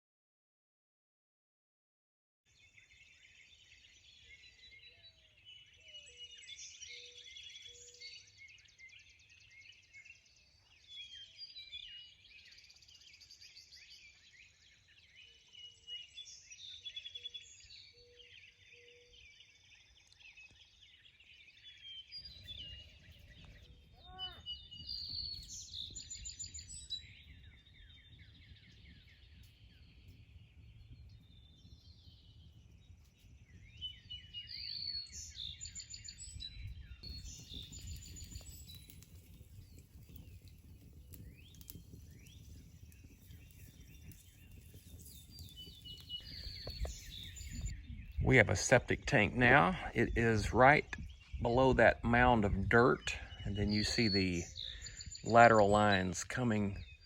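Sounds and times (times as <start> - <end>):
birds chirping and trilling: 2.5 - 57.0.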